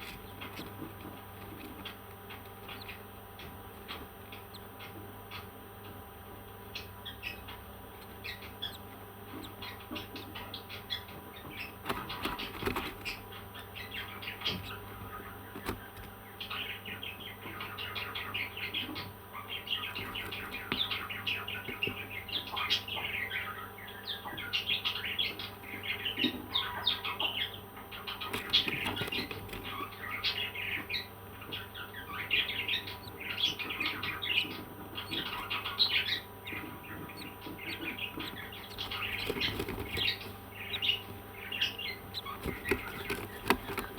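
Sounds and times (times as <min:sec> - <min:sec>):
parrots chirping: 0:01.6 - 0:05.6, 0:06.7 - 0:43.9.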